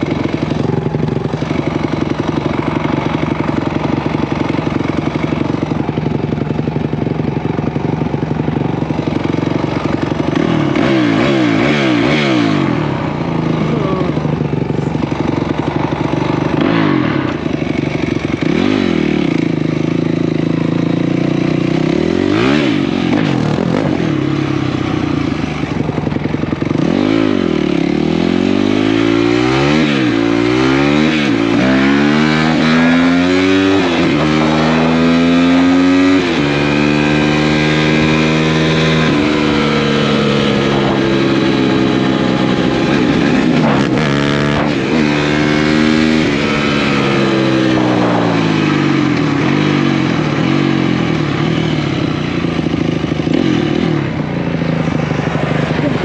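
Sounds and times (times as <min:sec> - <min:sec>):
off-road motorcycle engine revving: 0:00.0 - 0:56.0
second motorcycle engine: 0:00.0 - 0:56.0.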